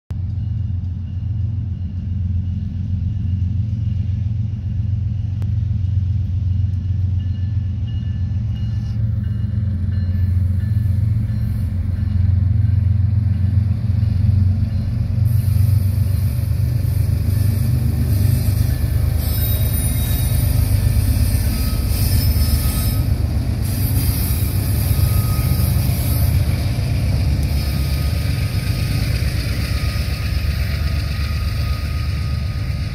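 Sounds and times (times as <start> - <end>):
diesel locomotive engine rumble: 0.1 - 32.9
train wheel and rail noise: 0.1 - 32.9.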